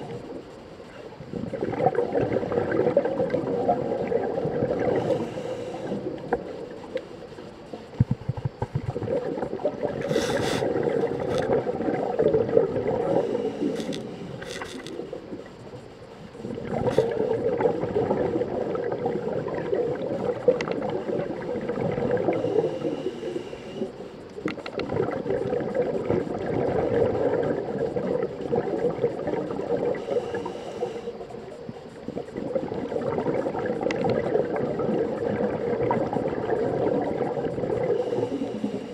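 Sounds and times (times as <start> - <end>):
underwater exhaled bubbles gurgling: 0.0 - 38.9.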